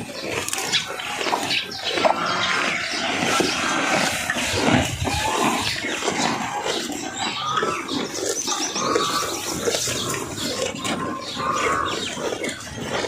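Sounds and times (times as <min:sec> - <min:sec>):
cattle chewing grass: 0:00.0 - 0:13.0.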